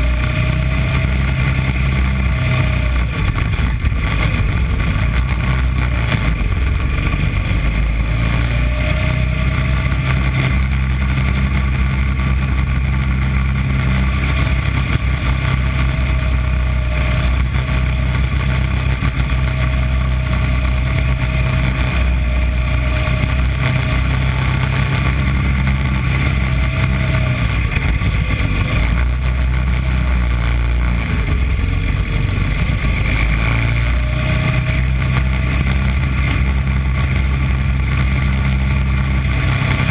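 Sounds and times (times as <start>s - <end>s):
kart engine running: 0.0s - 39.9s
rushing noise: 0.0s - 39.9s.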